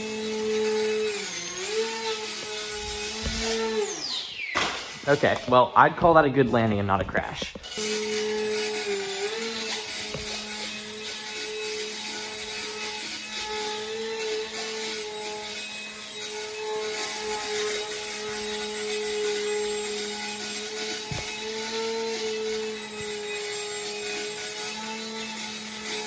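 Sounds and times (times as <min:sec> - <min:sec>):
model plane motor buzzing: 0:00.0 - 0:05.4, 0:07.4 - 0:26.0.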